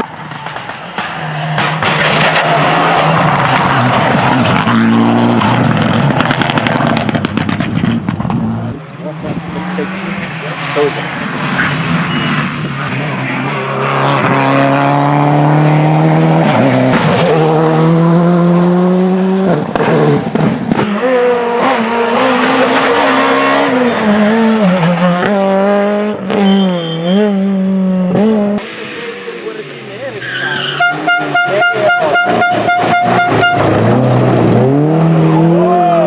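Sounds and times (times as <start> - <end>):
rally car engine at high revs: 0.0 - 36.0.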